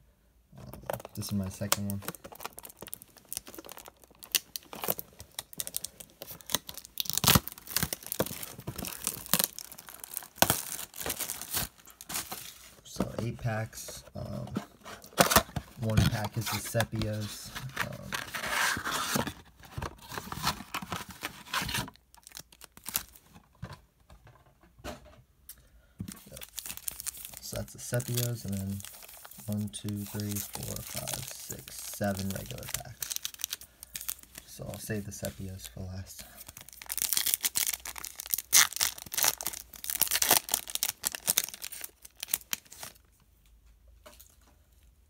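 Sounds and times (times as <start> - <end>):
foil packs crinkling: 0.7 - 13.5, 15.0 - 23.2, 26.2 - 43.1.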